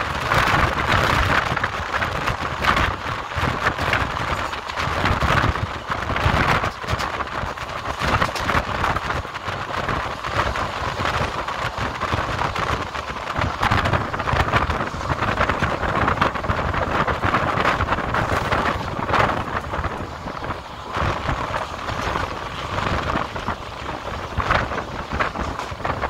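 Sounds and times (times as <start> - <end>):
train wheels on rails rattling: 0.0 - 26.0
wind on microphone: 0.0 - 26.0.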